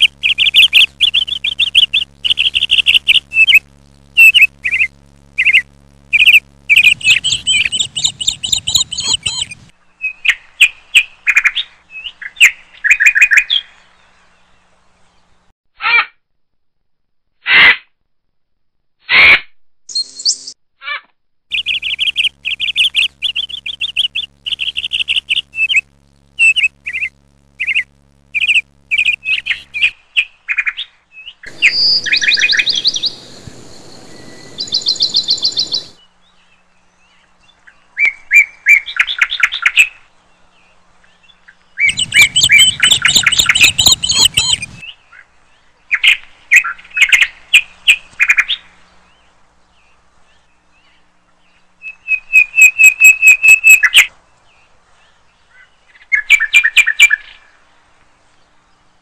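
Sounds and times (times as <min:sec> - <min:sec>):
birds chirping and trilling: 0:00.0 - 0:15.4, 0:19.9 - 0:20.5, 0:21.5 - 0:57.7.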